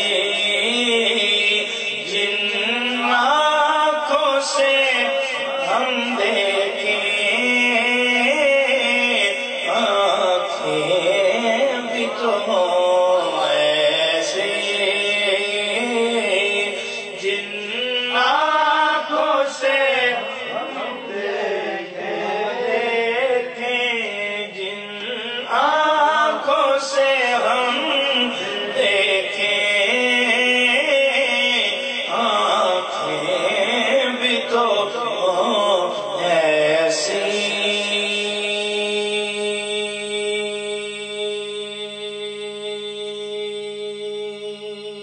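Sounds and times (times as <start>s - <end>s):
man singing devotional chant: 0.0s - 45.0s.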